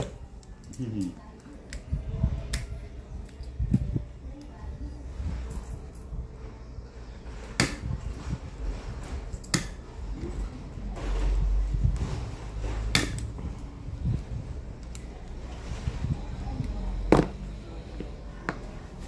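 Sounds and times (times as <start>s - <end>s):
low steady rumble: 1.9s - 19.0s.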